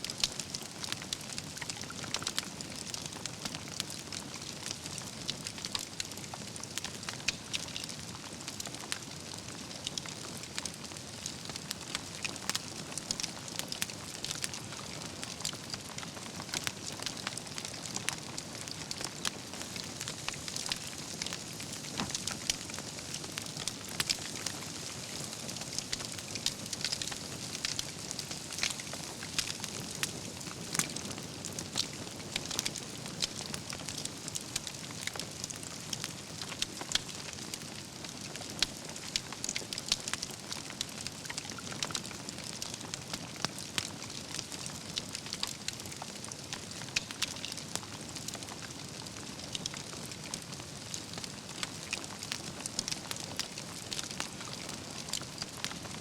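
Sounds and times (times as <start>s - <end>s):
campfire flames hissing: 0.1s - 56.0s
logs crackling and popping: 0.1s - 56.0s.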